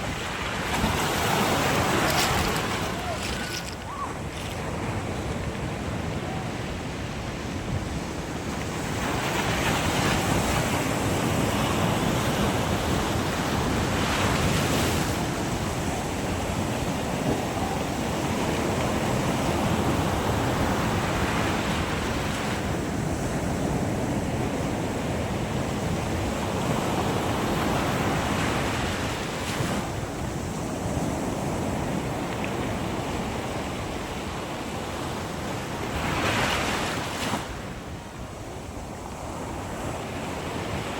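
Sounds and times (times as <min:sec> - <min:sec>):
sea waves breaking: 0:00.0 - 0:34.4.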